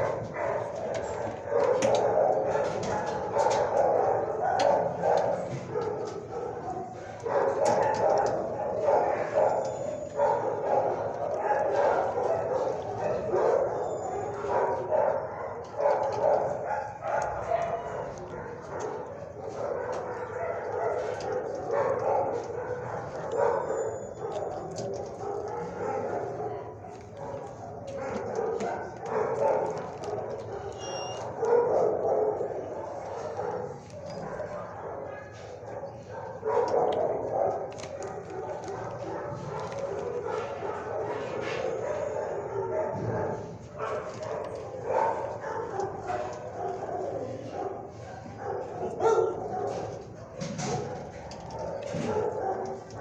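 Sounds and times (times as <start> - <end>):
many dogs barking: 0.0 - 53.0.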